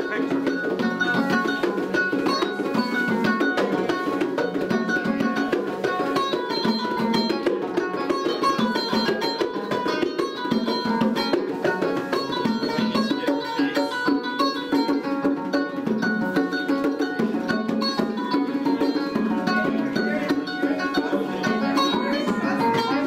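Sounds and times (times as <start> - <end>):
hand-drummed bongo rhythm: 0.0 - 23.0
plucked kora notes: 0.0 - 23.0.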